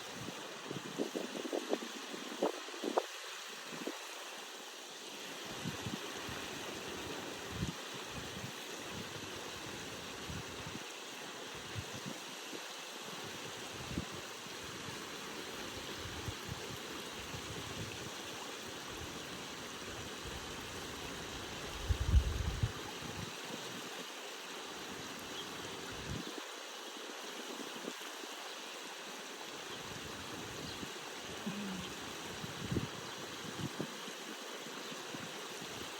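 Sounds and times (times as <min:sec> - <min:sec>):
running water rushing: 0:00.0 - 0:35.9.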